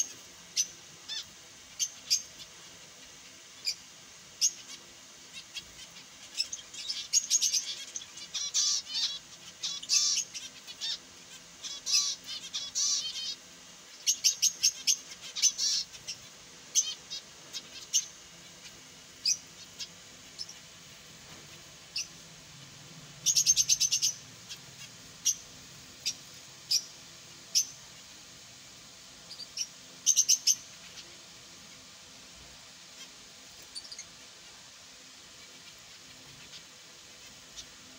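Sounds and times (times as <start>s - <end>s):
finches chirping: 0.0s - 28.2s, 29.2s - 37.9s.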